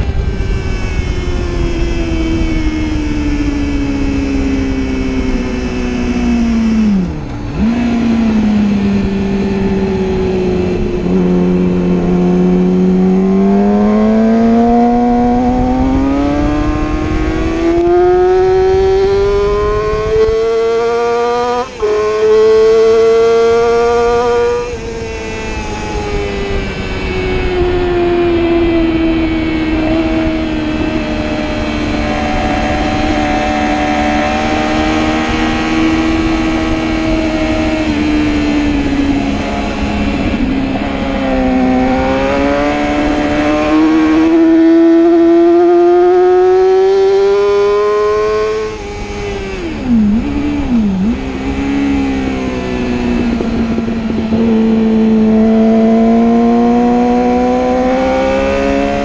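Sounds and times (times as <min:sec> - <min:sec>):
motorcycle engine revving: 0:00.0 - 0:59.0
wind on microphone: 0:00.0 - 0:59.0.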